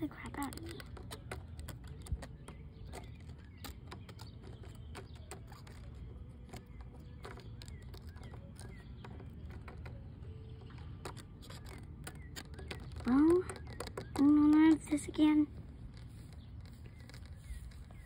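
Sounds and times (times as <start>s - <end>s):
toy tapping on wooden railing: 0.0s - 15.3s.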